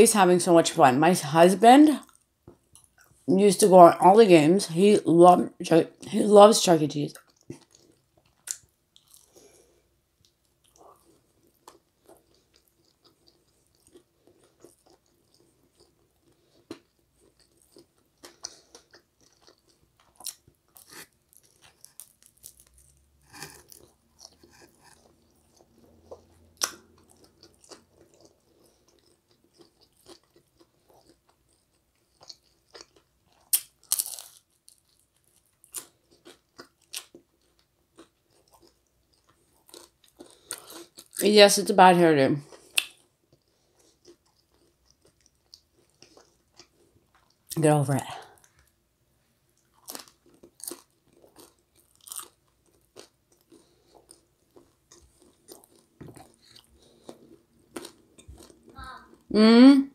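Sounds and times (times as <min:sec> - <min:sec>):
chewing crunchy food: 0:02.0 - 0:03.3, 0:07.1 - 0:41.3, 0:42.4 - 0:48.8, 0:49.5 - 0:59.3.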